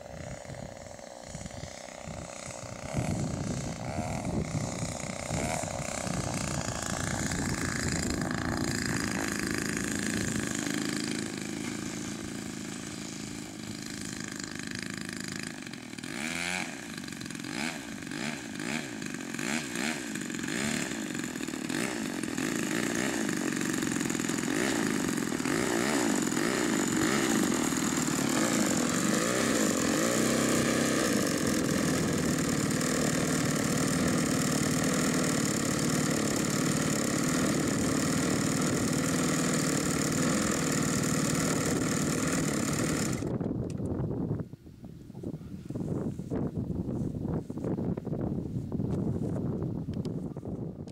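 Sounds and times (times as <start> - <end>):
two-stroke engine running: 0.0 - 43.5.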